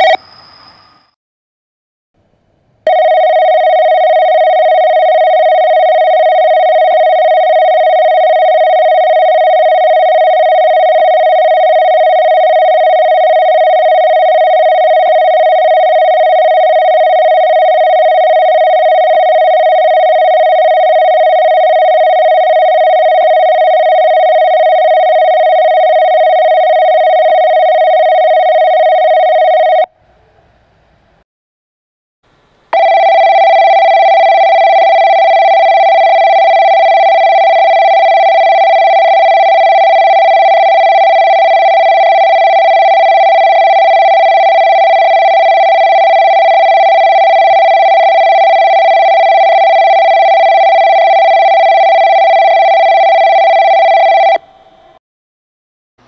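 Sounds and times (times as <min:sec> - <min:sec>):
electronic platform bell ringing: 0:00.0 - 0:01.1, 0:02.9 - 0:29.9, 0:32.7 - 0:55.0.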